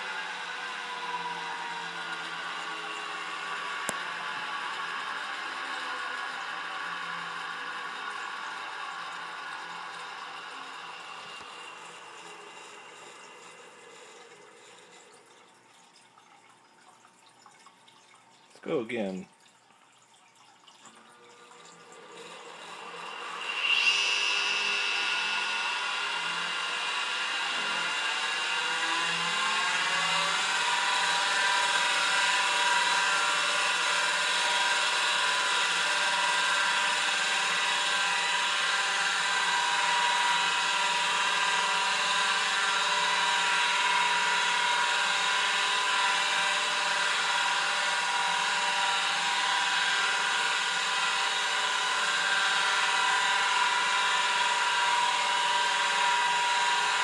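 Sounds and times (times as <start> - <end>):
hard drive spinning up: 0.0 - 15.2, 21.3 - 57.0.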